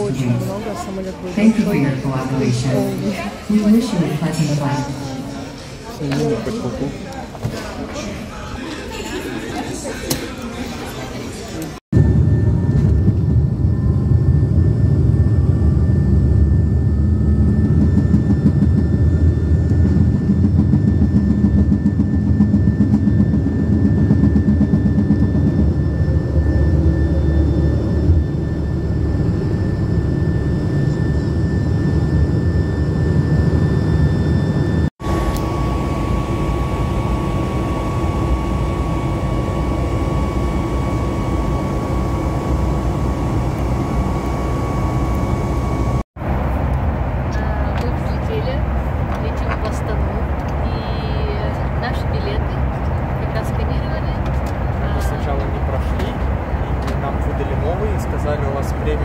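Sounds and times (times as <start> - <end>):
jet engines rumbling with whine: 0.0 - 59.0.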